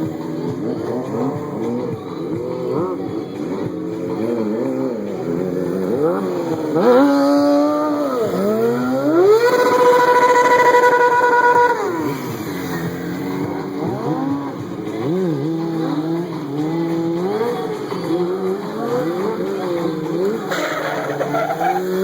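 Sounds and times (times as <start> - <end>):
high-revving engine: 0.0 - 22.0.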